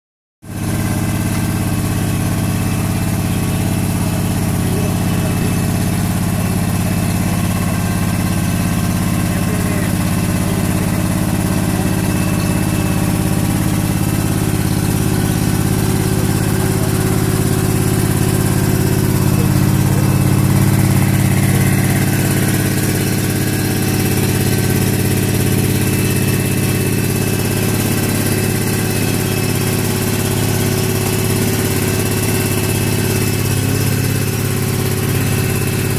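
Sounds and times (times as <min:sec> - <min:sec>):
engine humming steadily: 0:00.5 - 0:35.9.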